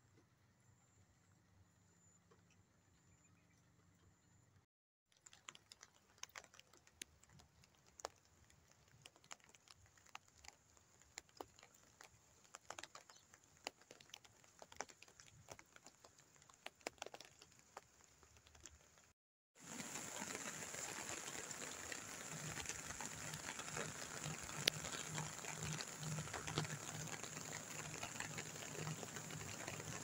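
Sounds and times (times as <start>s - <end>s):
raindrops dripping and tapping: 5.1s - 30.0s
light rain hiss: 5.2s - 30.0s.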